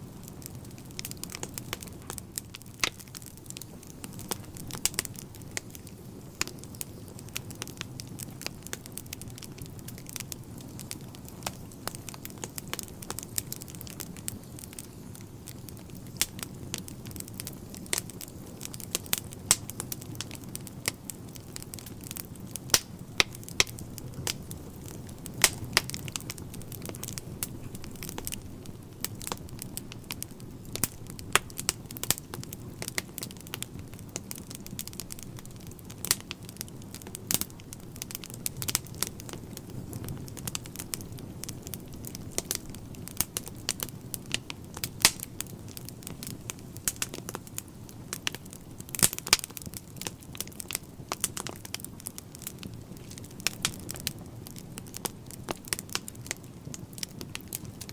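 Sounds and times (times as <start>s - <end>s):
fire low rumble: 0.0s - 57.9s
wood fire crackling and popping: 0.0s - 57.9s.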